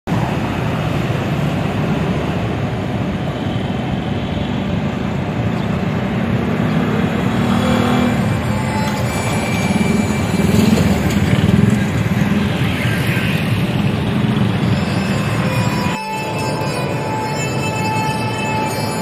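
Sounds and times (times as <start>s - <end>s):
road traffic: 0.1s - 19.0s.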